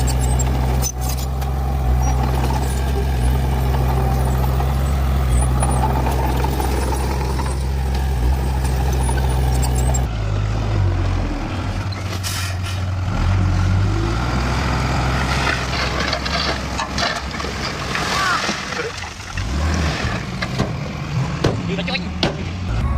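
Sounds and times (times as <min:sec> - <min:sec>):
construction machinery engine drone: 0:00.0 - 0:17.5, 0:18.9 - 0:22.9.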